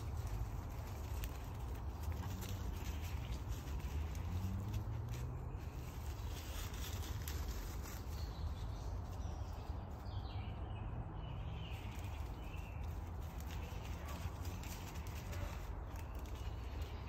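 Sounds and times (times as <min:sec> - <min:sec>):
rustling in dry leaves: 0:00.0 - 0:17.0.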